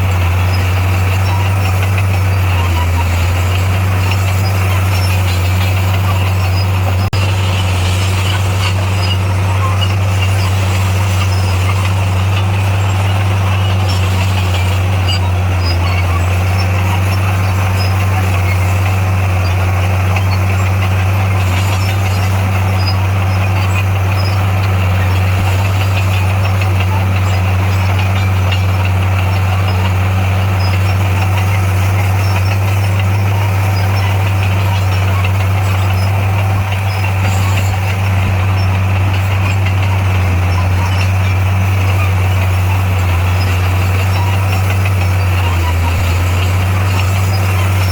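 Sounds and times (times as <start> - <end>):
bulldozer diesel engine drone: 0.0 - 47.9.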